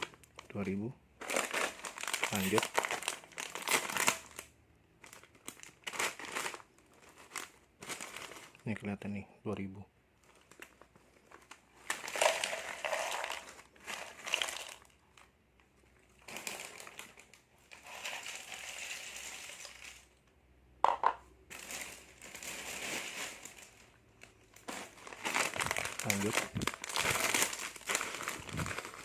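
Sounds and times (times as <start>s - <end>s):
plastic snack packets crinkling: 0.0s - 8.8s, 10.2s - 20.2s, 21.4s - 29.0s.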